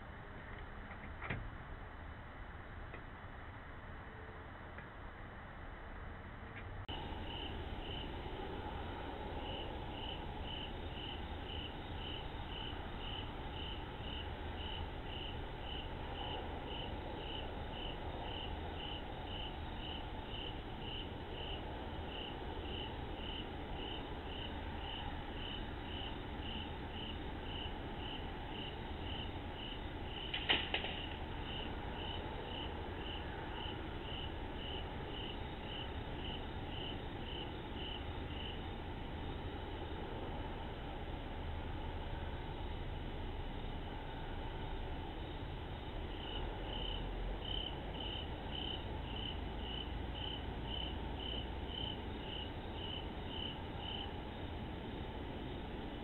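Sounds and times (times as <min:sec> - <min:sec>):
cricket chirping: 0:06.9 - 0:56.0.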